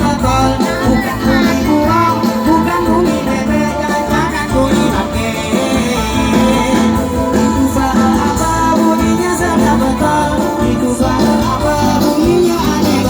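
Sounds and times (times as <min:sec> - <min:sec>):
person singing over a beat: 0:00.0 - 0:13.0.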